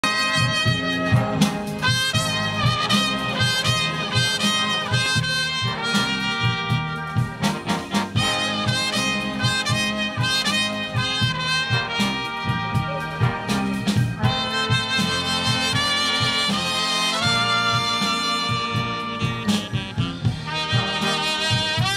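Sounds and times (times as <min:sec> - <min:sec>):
drums keeping a steady beat: 0:00.0 - 0:21.9
electric bass: 0:00.0 - 0:21.9
saxophones: 0:00.0 - 0:21.9
trombones: 0:00.0 - 0:21.9
trumpets: 0:00.0 - 0:21.9.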